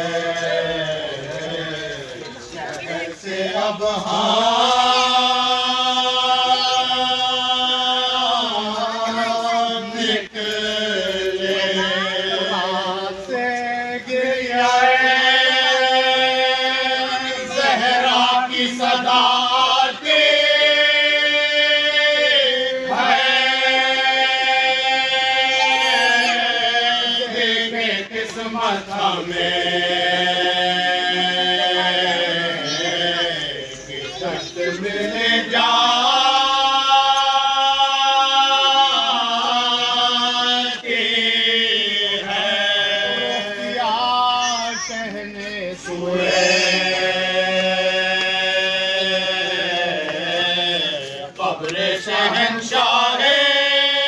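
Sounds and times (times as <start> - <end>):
men chanting: 0.0 - 54.0.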